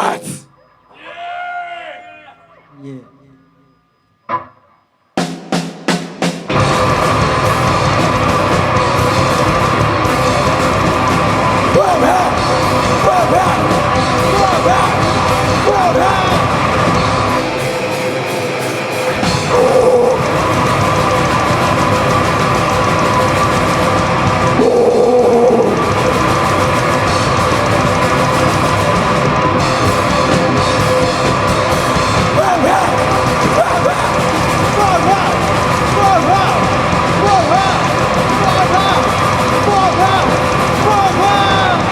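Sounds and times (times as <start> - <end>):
live rock band playing: 5.2 - 41.9.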